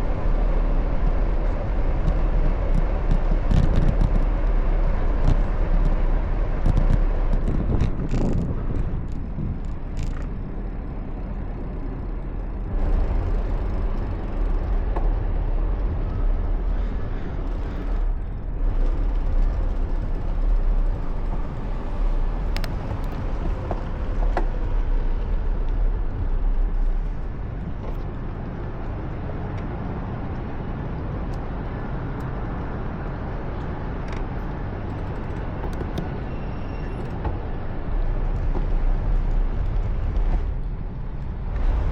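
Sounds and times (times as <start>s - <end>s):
traffic rumble: 0.0s - 41.9s.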